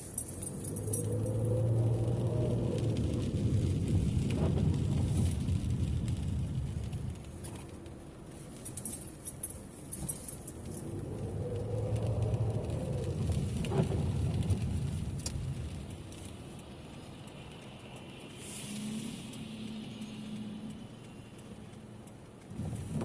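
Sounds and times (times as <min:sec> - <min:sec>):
car road and engine rumble: 0:00.0 - 0:23.0
light clicks and rattles: 0:00.0 - 0:23.0.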